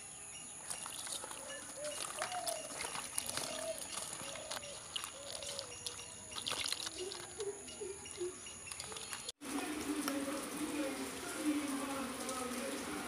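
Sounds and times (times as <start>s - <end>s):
water sloshing in a bowl: 0.6s - 13.0s.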